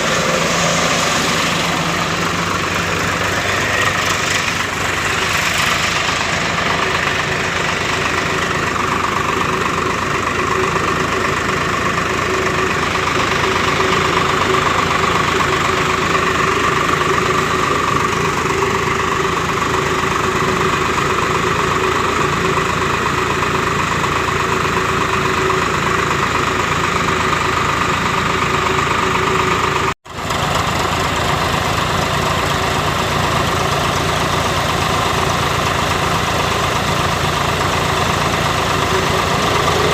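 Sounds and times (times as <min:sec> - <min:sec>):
chaff cutter machine droning: 0:00.0 - 0:39.9
tractor engine running: 0:00.0 - 0:39.9.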